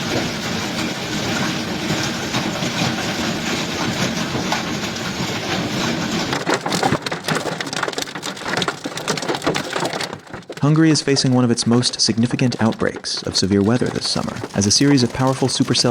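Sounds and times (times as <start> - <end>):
hail pelting a hard surface: 0.0 - 15.9.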